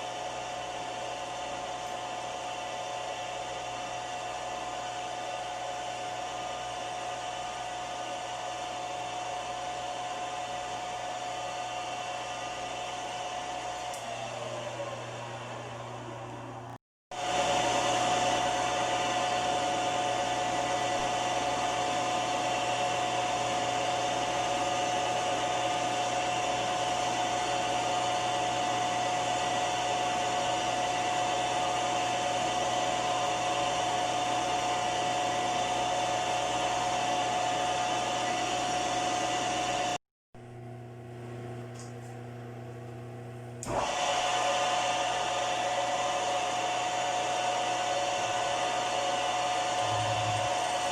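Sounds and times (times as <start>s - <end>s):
milling machine whine: 0.0s - 40.0s, 43.0s - 50.9s.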